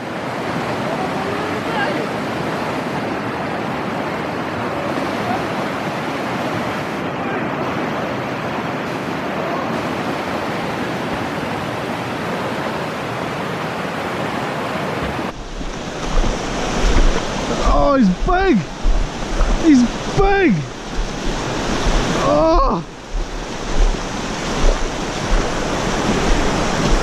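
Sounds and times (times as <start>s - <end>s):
river rapids rushing over rocks: 0.0s - 27.0s.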